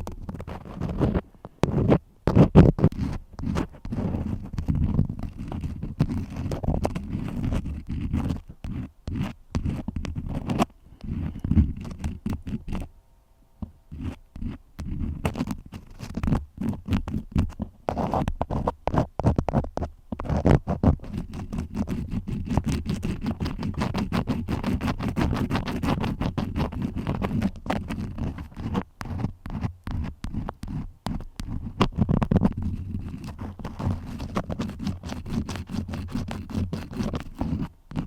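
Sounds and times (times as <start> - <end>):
crayons scratching on paper: 0.0 - 12.9, 13.9 - 38.0.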